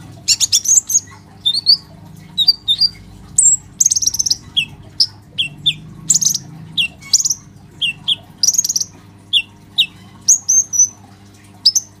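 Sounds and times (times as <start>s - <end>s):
sunbird chirping and twittering: 0.3s - 11.0s.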